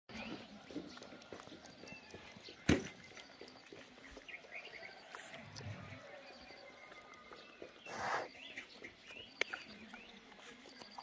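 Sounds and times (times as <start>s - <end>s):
birds chirping: 0.1s - 11.0s
pig rooting in soil: 0.1s - 11.0s.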